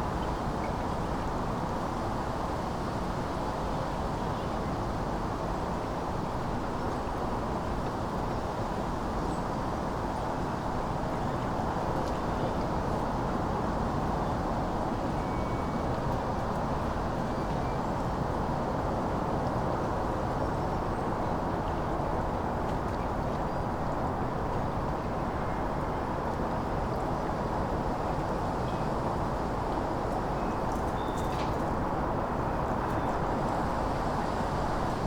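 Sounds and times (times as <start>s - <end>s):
wind: 0.0s - 35.0s.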